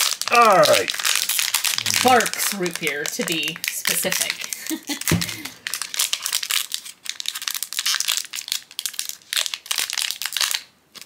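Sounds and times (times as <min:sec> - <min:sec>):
foil pouch crinkling: 0:00.0 - 0:11.0.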